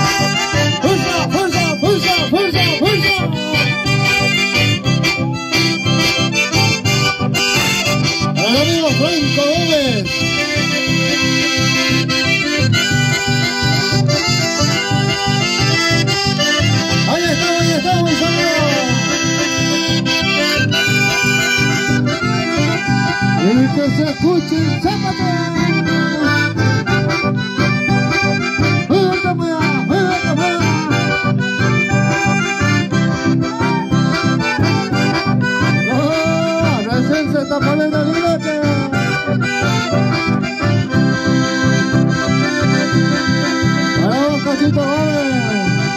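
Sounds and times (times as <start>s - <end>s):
acoustic guitar: 0.0s - 45.9s
button accordions: 0.0s - 45.9s.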